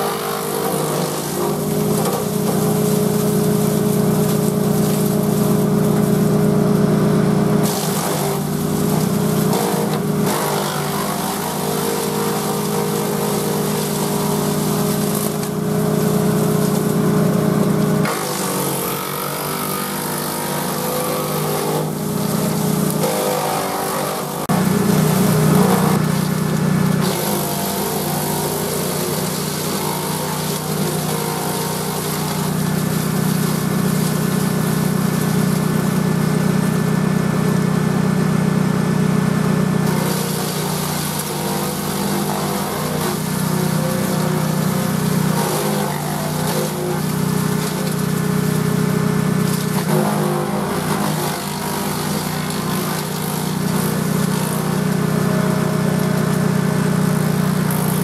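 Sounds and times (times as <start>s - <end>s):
tractor engine running under load: 0.0s - 18.7s, 24.3s - 58.0s
chipper shredding branches: 0.0s - 58.0s.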